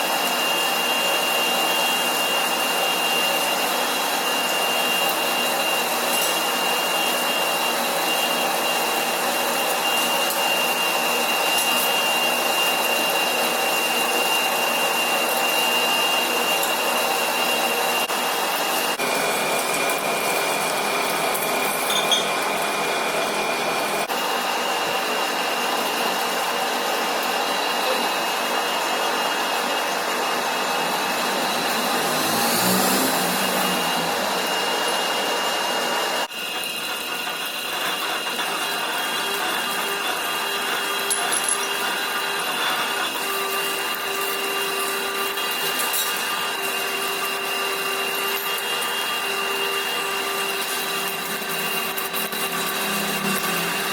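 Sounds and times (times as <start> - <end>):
lathe whining: 0.0 - 53.9.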